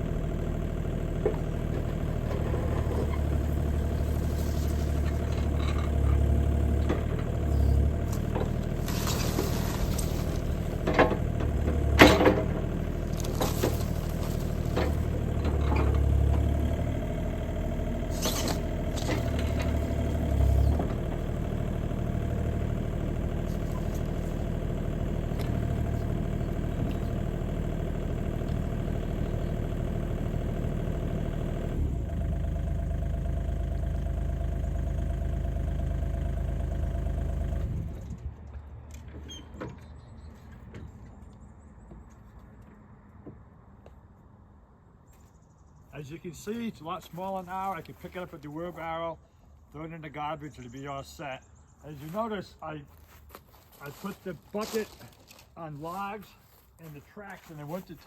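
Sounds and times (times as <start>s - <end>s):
excavator diesel engine running: 0.0s - 39.4s, 49.8s - 58.0s.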